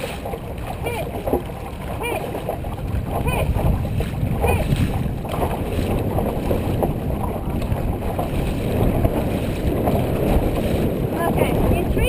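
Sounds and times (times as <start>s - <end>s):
water noise: 0.0s - 12.0s
wind rumbling on microphone: 0.0s - 12.0s.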